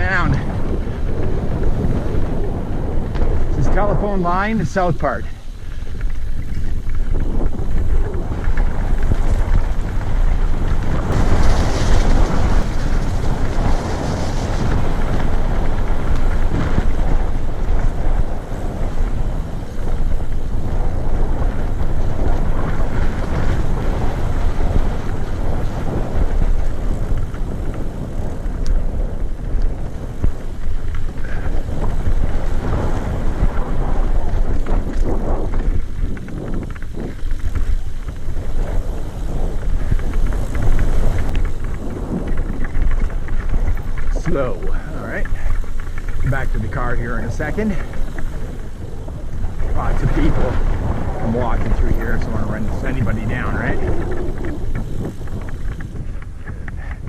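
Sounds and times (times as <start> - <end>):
mountain bike rattling on dirt trail: 0.0 - 57.0
wind on microphone: 0.0 - 57.0.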